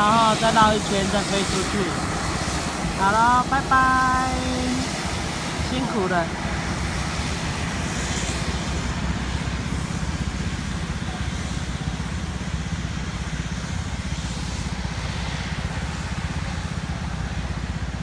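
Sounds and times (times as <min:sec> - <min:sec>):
distant plane engines rumbling: 0:00.0 - 0:18.0.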